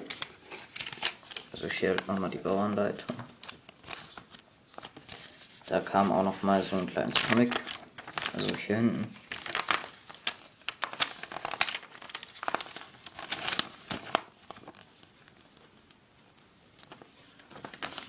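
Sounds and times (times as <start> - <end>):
paper crinkling and rustling: 0.0 - 18.0.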